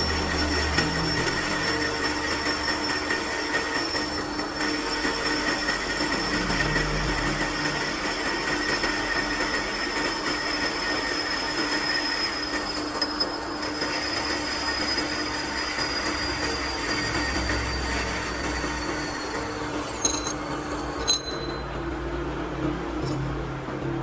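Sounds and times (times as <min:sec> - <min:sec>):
lathe cutting metal squeal: 0:00.0 - 0:21.8.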